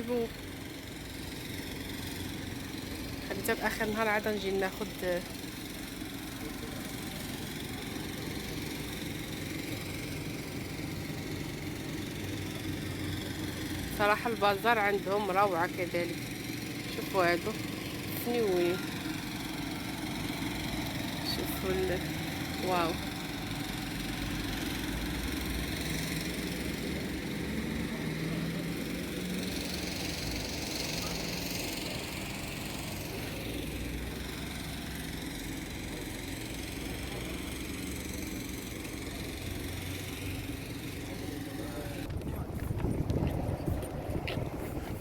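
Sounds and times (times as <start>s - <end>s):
motor rumble: 0.0s - 45.0s.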